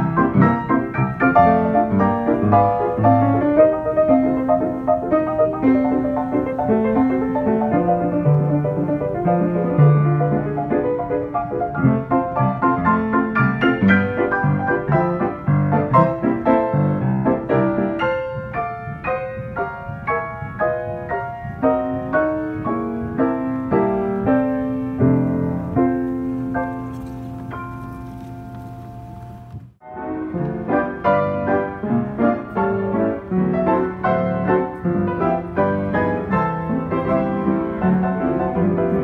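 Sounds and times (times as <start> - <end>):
player piano notes and chords: 0.0 - 39.0.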